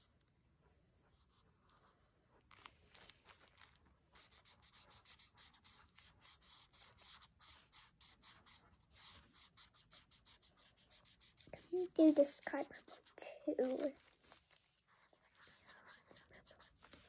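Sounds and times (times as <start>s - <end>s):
chalk marker scribbling on paper: 0.9s - 17.0s.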